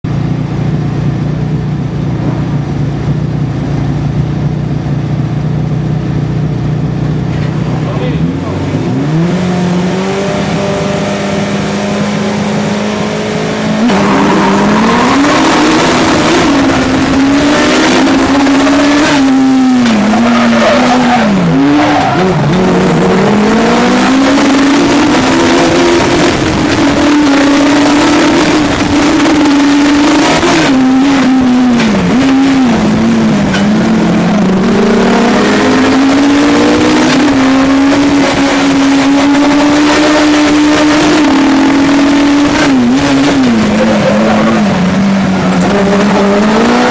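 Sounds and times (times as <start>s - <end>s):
race car engine revving: 0.1s - 46.9s.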